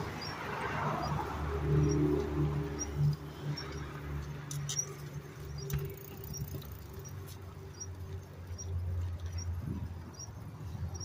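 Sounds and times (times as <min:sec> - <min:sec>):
bicycle squeak: 0:00.0 - 0:10.3.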